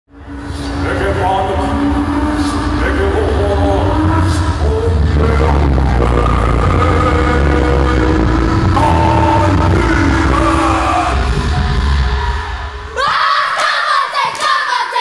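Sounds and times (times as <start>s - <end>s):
deep bass drone: 0.1s - 13.0s
music with long held notes: 0.1s - 13.0s.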